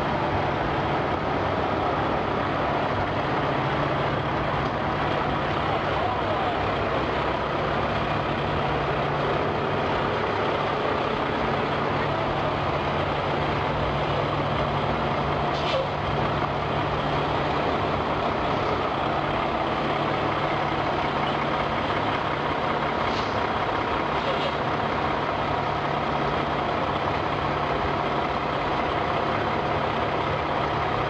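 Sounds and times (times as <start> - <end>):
truck diesel engine idling: 0.0 - 31.0.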